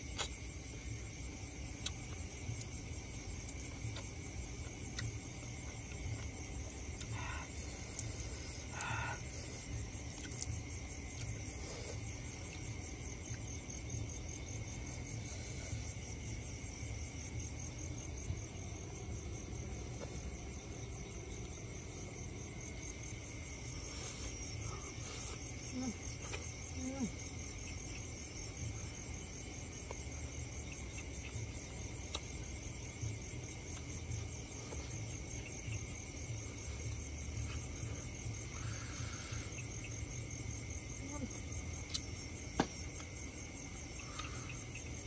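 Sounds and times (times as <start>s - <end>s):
crickets chirring: 0.0s - 45.0s
high insect trill pulsing: 0.0s - 45.0s.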